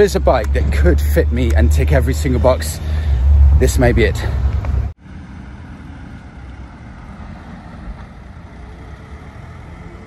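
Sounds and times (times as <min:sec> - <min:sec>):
van engine rumbling: 0:00.0 - 0:10.0.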